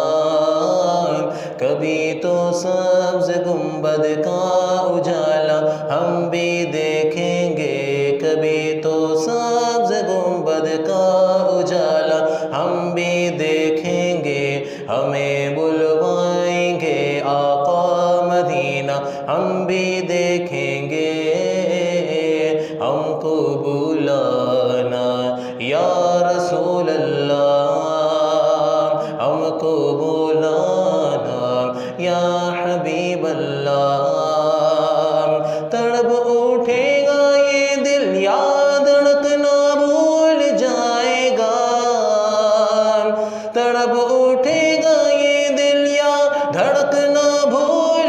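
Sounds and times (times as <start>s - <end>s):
man singing devotional song: 0.0s - 48.0s.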